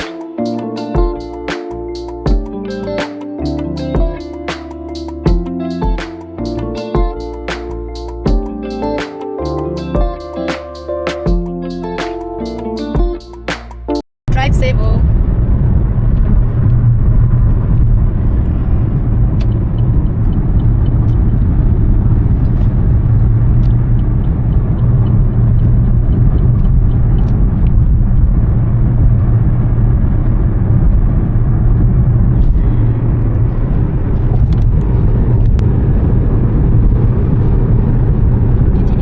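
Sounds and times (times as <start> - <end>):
vehicle rumble: 0.0 - 39.0.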